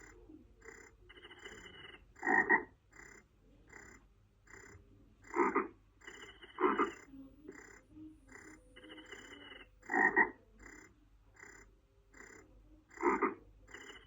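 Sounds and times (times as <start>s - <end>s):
frogs croaking in chorus: 0.0s - 14.0s.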